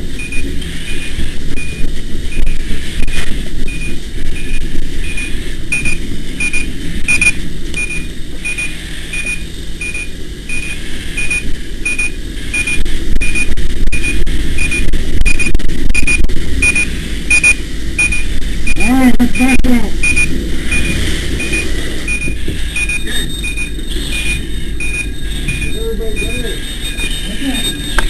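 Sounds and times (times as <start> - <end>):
steady low rumble: 0.0 - 28.0
electronic alarm beeping: 0.2 - 28.0.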